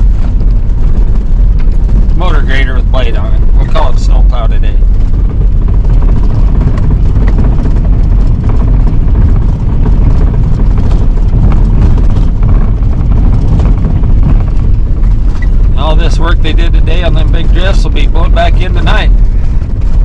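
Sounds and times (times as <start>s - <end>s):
vehicle rumbling on snowy road: 0.0s - 20.0s.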